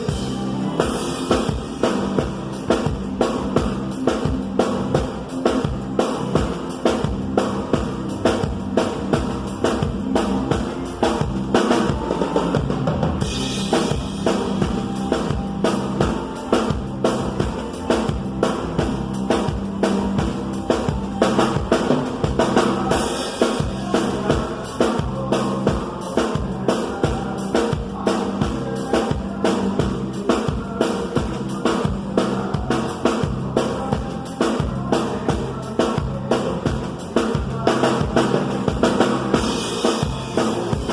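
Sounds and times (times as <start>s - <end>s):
band music: 0.0s - 40.9s
bass drum and snare beat: 0.0s - 40.9s
bass line: 0.0s - 40.9s.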